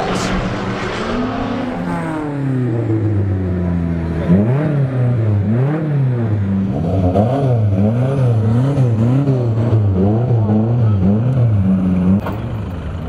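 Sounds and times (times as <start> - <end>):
racing car engine revving: 0.0 - 12.3.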